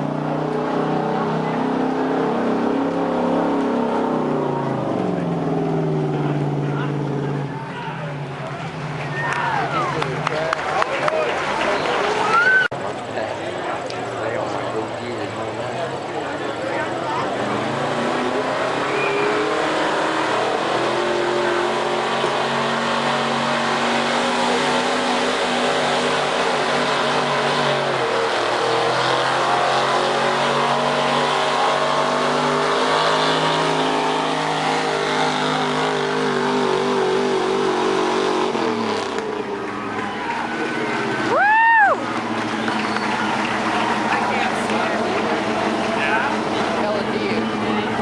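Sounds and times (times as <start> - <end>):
truck engine revving under load: 0.0 - 48.0.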